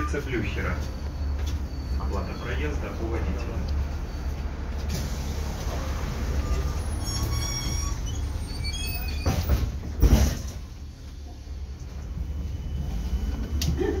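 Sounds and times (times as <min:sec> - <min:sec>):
trolleybus rumble: 0:00.0 - 0:14.0.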